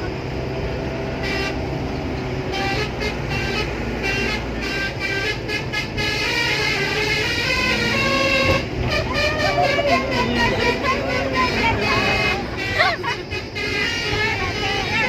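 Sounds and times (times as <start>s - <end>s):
low rumble of vehicles: 0.0s - 15.0s
musical truck horn: 0.7s - 15.0s.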